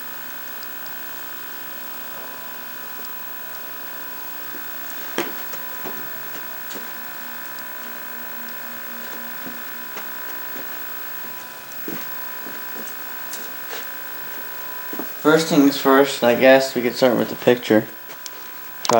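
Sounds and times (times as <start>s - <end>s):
steady high electronic whine: 0.0s - 18.9s.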